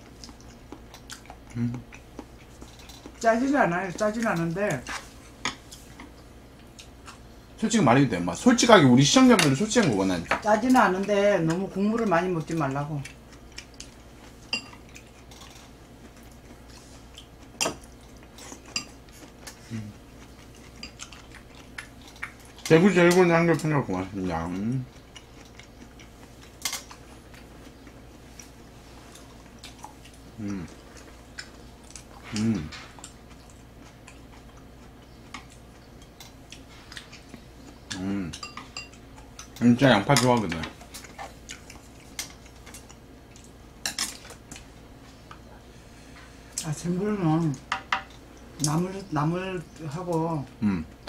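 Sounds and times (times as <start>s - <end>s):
quiet chewing: 0.0s - 3.2s, 4.2s - 7.3s, 11.0s - 23.7s, 24.4s - 48.8s.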